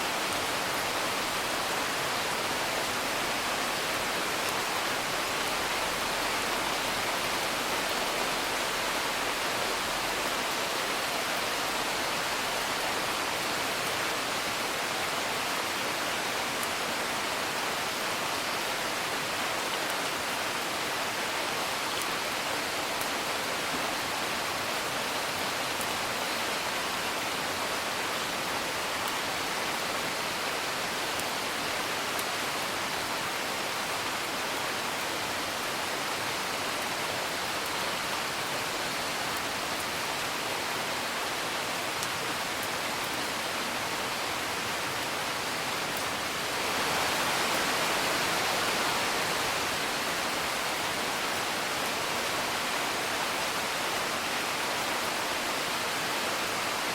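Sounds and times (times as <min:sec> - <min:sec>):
rain hiss: 0:00.0 - 0:56.9.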